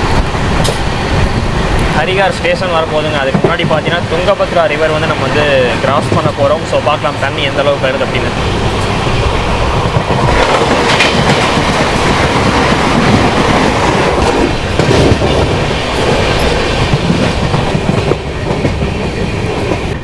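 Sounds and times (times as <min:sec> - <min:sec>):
train wheels rumbling on rails: 0:00.0 - 0:20.0
wheels clacking over rail joints: 0:00.0 - 0:20.0.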